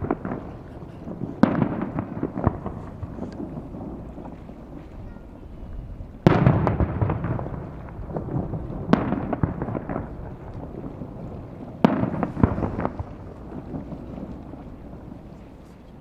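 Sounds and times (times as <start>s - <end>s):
fireworks crackling: 0.0s - 16.0s
fireworks shells booming: 0.0s - 16.0s.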